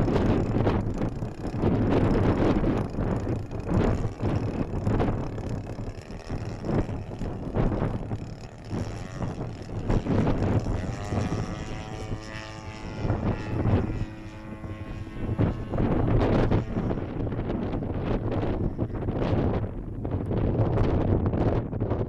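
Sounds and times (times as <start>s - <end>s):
model plane engine drone: 0.0s - 22.0s
wind buffeting microphone: 0.0s - 22.0s.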